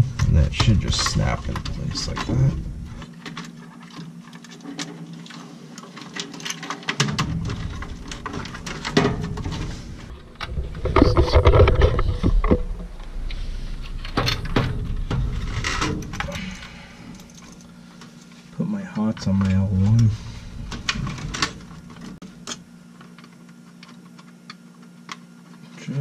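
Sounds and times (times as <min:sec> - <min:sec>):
low rumbling handling noise: 0:00.0 - 0:22.8.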